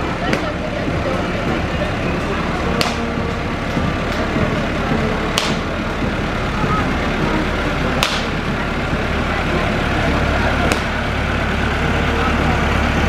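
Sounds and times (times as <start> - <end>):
tractor engine rumbling: 0.0 - 13.0.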